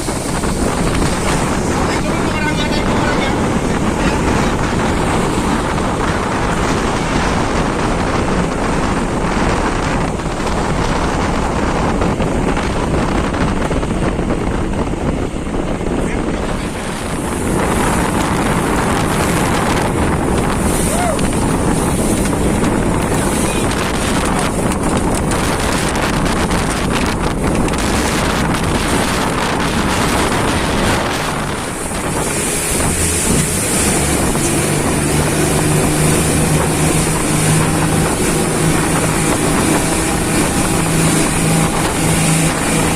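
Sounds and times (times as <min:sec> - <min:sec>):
boat engine running: 0:00.0 - 0:42.9
wind buffeting microphone: 0:00.0 - 0:42.9.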